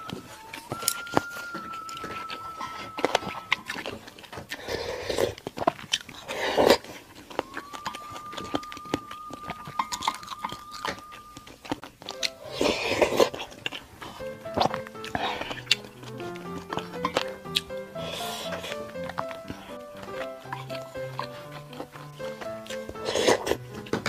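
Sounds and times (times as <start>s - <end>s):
chewing: 0.0s - 24.0s
slurping soup: 0.3s - 8.2s, 9.1s - 24.0s.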